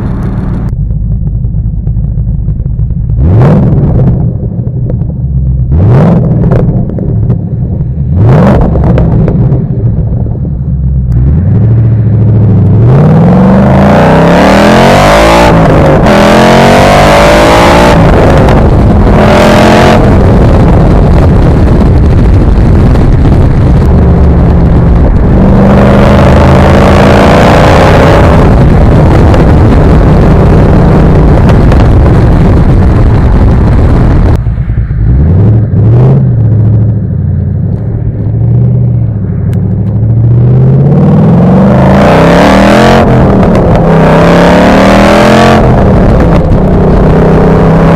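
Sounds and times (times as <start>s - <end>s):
car engine revving under acceleration: 0.0s - 34.4s, 35.0s - 47.9s.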